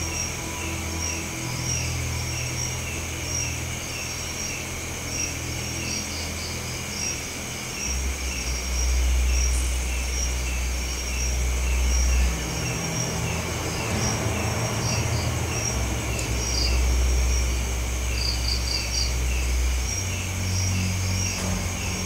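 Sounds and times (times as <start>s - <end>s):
insects chirping: 0.0s - 22.0s
low rumble: 0.0s - 22.0s.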